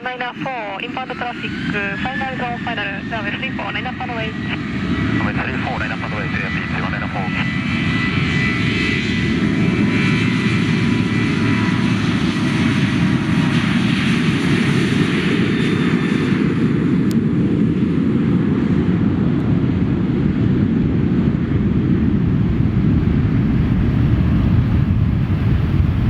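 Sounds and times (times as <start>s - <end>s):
steady low rumble: 0.0s - 15.6s, 16.3s - 26.0s
jet engine whine: 0.0s - 26.0s.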